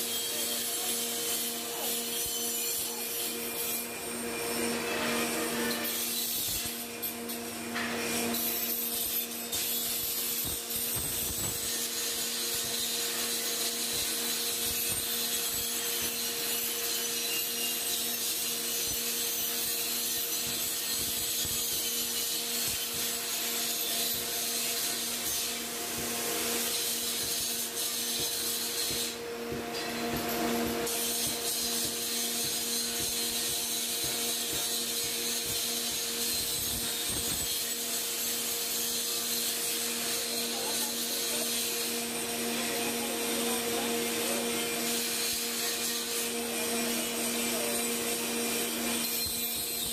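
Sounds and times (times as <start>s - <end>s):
electric grinder disc grinding: 7.8s - 49.9s.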